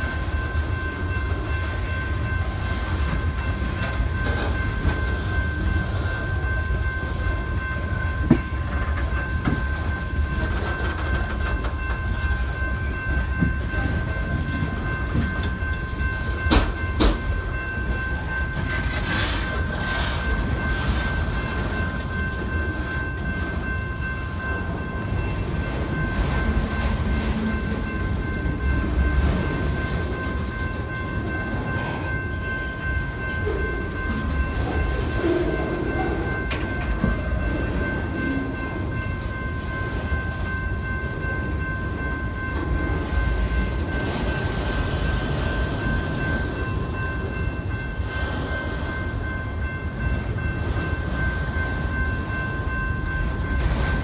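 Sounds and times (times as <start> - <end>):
freight train rumbling: 0.0 - 54.0
train cars clanking: 0.0 - 54.0.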